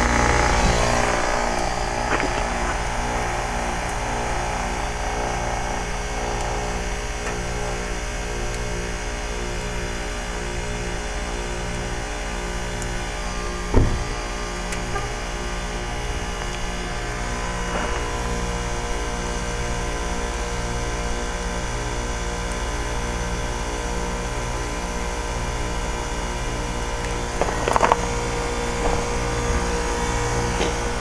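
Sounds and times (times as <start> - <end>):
heat pump humming: 0.0 - 31.0.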